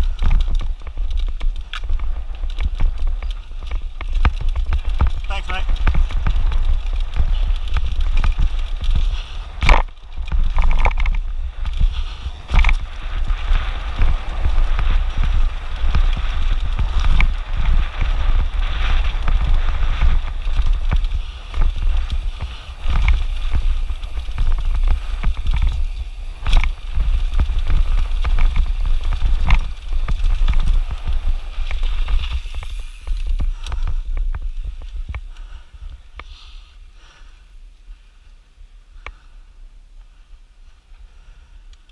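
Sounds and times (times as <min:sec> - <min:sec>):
bike knocking on rocks: 0:00.0 - 0:35.6
wind buffeting microphone: 0:00.0 - 0:41.9.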